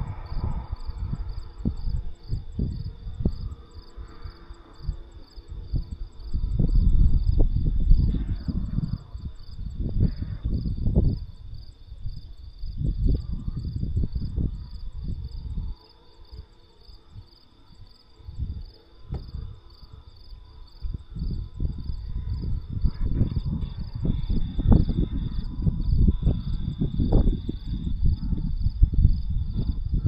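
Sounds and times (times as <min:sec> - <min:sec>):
crickets chirping: 0:00.0 - 0:30.0
wind rumbling on microphone: 0:00.0 - 0:30.0.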